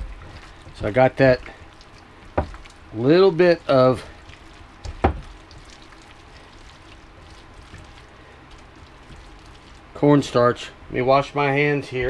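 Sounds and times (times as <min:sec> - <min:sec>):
low background hum: 0:00.0 - 0:12.0
wet squishing of kneading hands: 0:00.0 - 0:12.0.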